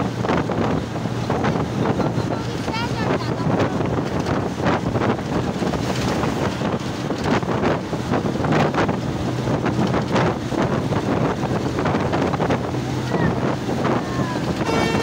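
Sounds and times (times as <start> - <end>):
bus and road hum: 0.0 - 15.0
wind buffeting microphone: 0.0 - 15.0.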